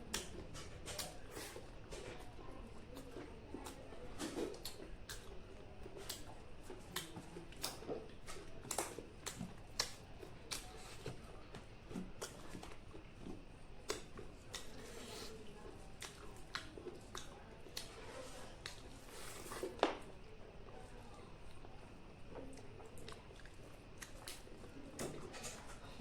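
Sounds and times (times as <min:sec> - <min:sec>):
chewing: 0:00.0 - 0:19.8, 0:20.7 - 0:26.0.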